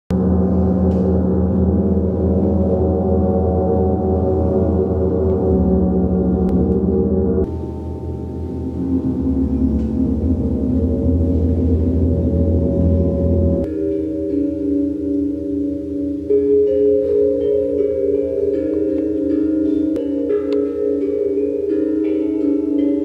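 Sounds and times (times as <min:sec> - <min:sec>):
gongs ringing: 0:00.1 - 0:23.0.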